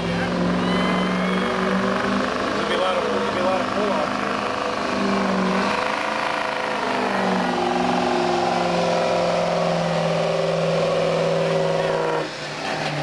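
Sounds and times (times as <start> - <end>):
truck engine running hard: 0.0 - 13.0.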